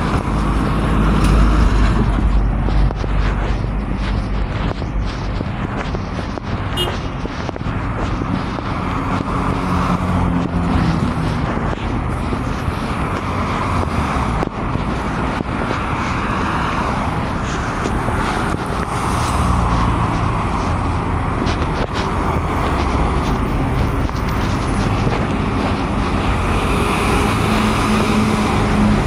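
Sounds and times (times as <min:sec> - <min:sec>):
road noise: 0:00.0 - 0:29.0
vehicle engine humming: 0:00.0 - 0:29.0.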